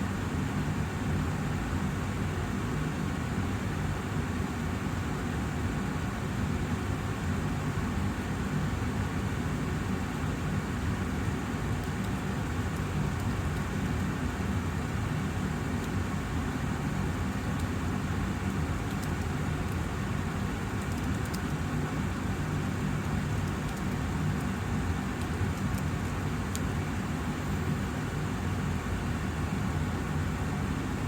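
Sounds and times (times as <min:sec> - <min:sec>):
air purifier fan humming: 0:00.0 - 0:31.0.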